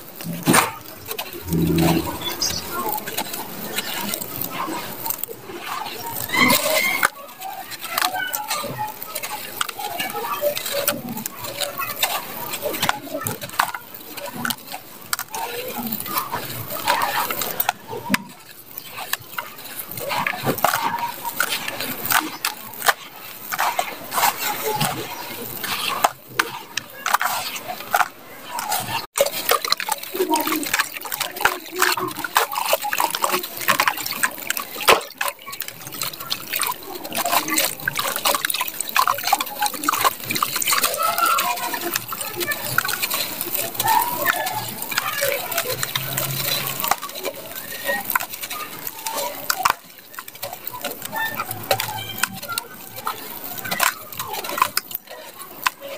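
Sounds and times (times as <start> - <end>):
loose dirt pattering: 0.0 - 55.9
soil clods crunching: 0.0 - 55.9.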